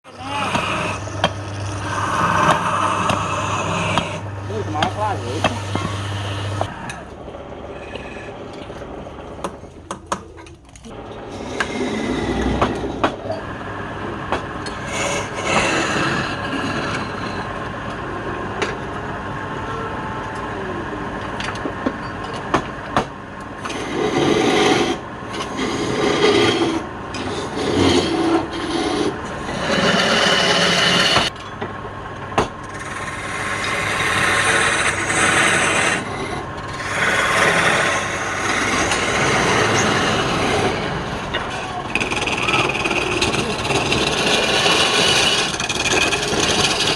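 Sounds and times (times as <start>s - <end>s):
tool scraping spinning wood: 0.0s - 18.8s, 21.4s - 31.4s, 32.5s - 46.9s
lathe running: 0.1s - 9.6s, 10.9s - 31.3s, 32.0s - 46.9s.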